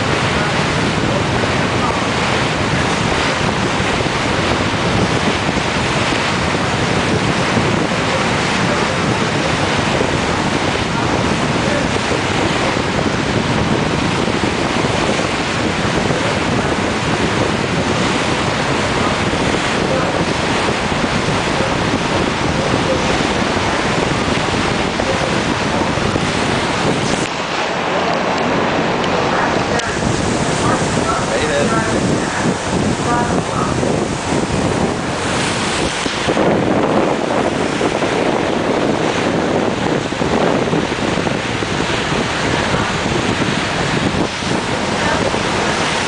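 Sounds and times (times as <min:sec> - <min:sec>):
water rushing around boat: 0:00.0 - 0:46.0
wind buffeting microphone: 0:00.0 - 0:46.0.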